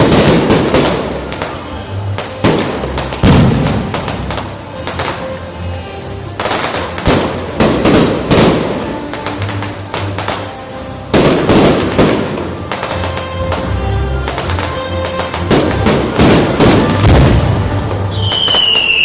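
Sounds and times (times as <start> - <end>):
fireworks bursting and crackling: 0.0 - 19.0
music: 0.0 - 19.0.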